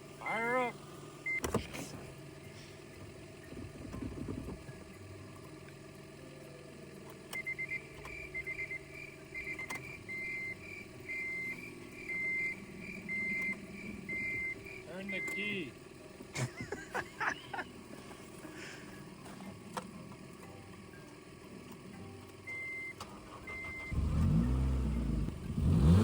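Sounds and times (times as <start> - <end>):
car warning chime beeping: 0.2 - 1.6, 2.2 - 18.7, 20.4 - 26.0.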